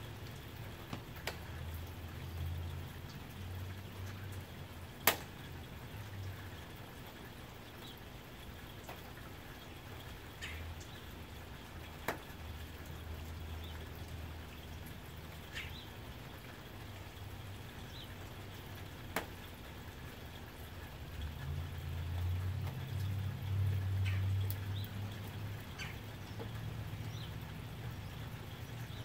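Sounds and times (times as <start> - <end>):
rain on a tin roof: 0.0 - 29.0.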